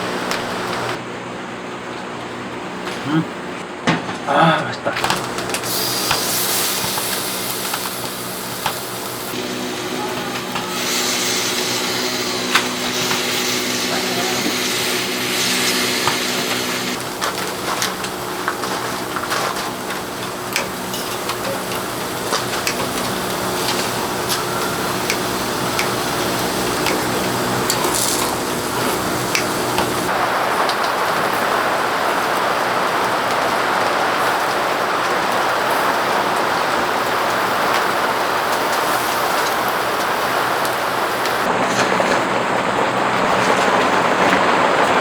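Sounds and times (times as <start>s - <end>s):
rain falling: 0.0s - 1.0s, 5.0s - 45.0s.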